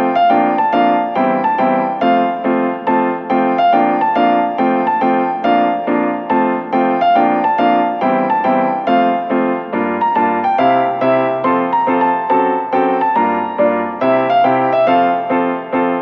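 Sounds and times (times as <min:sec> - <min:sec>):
piano playing repeated chords: 0:00.0 - 0:16.0.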